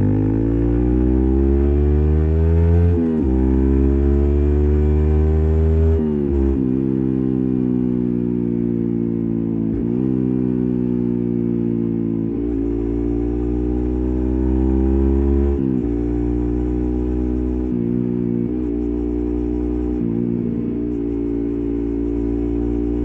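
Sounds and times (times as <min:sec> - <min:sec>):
motorcycle engine running: 0:03.0 - 0:23.0.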